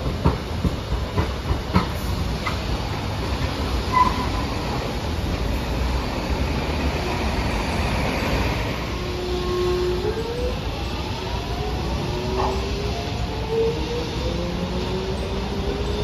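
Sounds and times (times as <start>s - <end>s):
streetcar rumbling on track: 0.0s - 16.0s.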